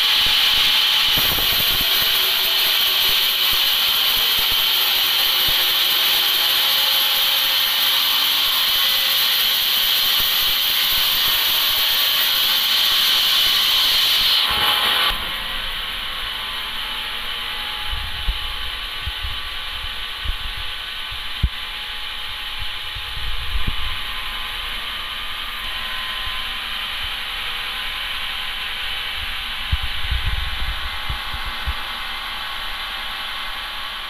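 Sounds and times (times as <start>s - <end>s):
saw blade hissing and whining: 0.0s - 34.0s.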